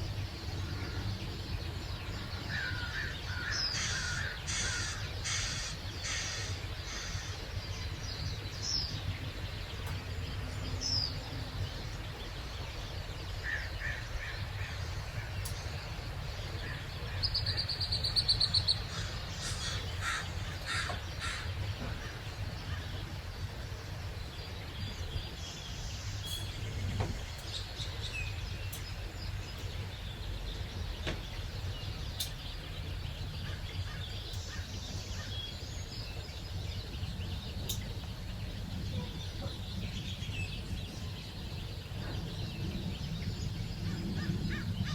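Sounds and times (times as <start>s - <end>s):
birds calling and chirping: 0.0s - 44.9s
steady low rumble: 0.0s - 44.9s.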